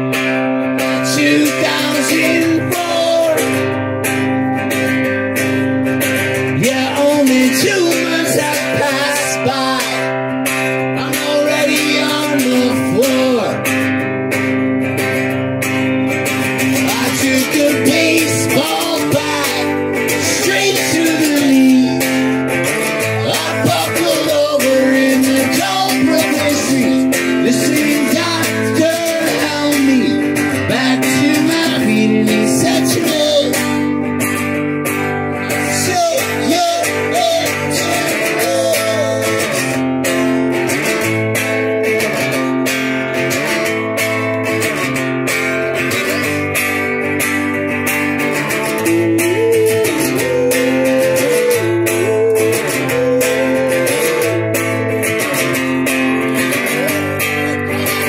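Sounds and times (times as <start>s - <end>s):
acoustic guitar strumming: 0.0s - 58.0s
man singing: 0.7s - 4.9s, 6.4s - 13.8s, 16.4s - 42.4s, 45.8s - 46.9s, 48.1s - 58.0s.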